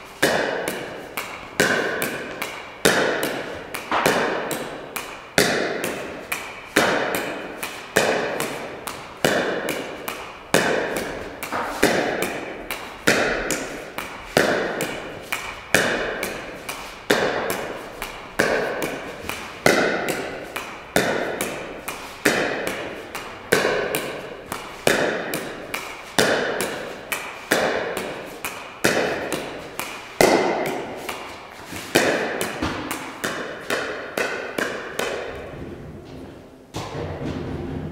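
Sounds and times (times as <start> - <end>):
paddle striking ball: 0.2 - 36.0
ball tapping off wall and floor: 0.2 - 37.9.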